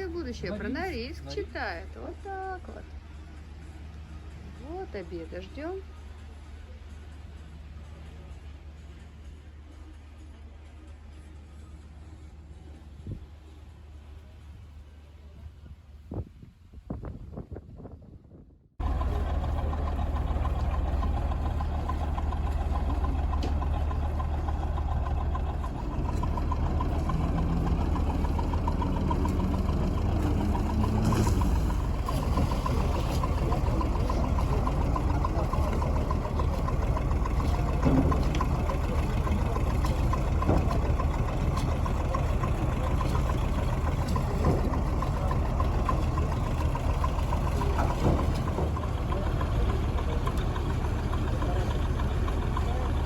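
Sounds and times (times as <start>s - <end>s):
ship diesel engines droning: 0.0s - 16.1s, 18.8s - 53.0s.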